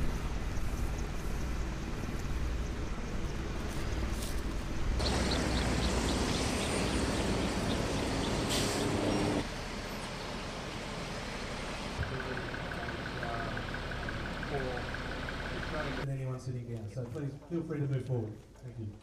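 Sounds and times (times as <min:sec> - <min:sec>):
trucks driving past rumbling: 0:00.0 - 0:16.0
outdoor background: 0:00.0 - 0:19.0.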